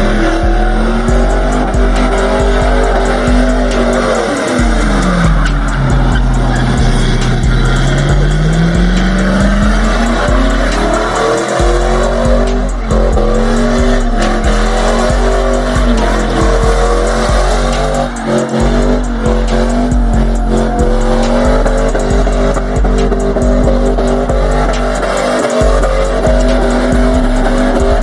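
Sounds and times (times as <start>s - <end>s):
car engine at high revs: 0.0s - 28.0s
tyres squealing: 0.0s - 28.0s.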